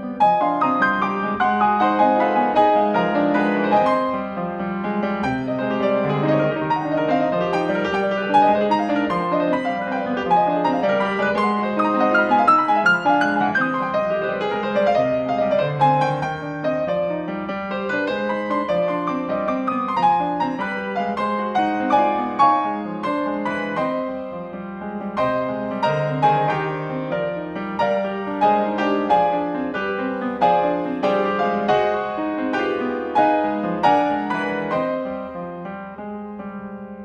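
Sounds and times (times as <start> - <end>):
solo grand piano: 0.0 - 37.0.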